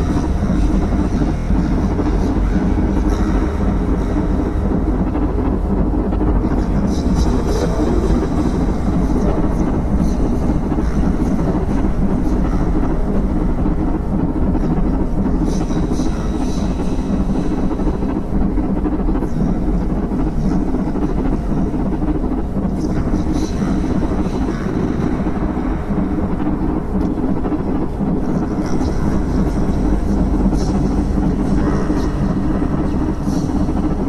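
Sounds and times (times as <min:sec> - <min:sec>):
rumbling drone music: 0:00.0 - 0:34.0.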